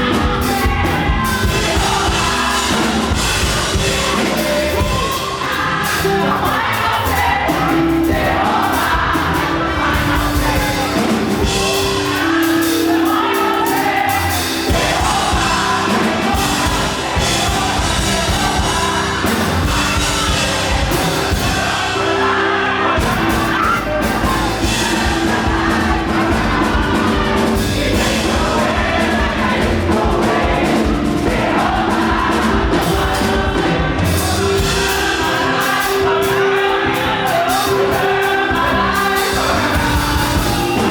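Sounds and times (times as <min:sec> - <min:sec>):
band with driving beat: 0:00.0 - 0:40.9
group singing gospel music: 0:00.0 - 0:40.9.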